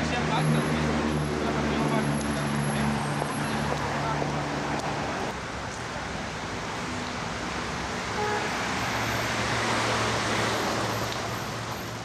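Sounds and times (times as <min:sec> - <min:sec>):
road traffic noise: 0:00.0 - 0:12.0
vehicle engine hum passing: 0:00.0 - 0:12.0.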